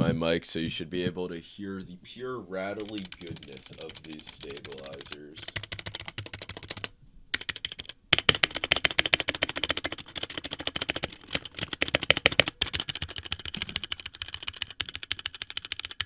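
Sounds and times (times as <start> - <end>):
fast typing on mechanical keyboard: 2.8 - 16.0.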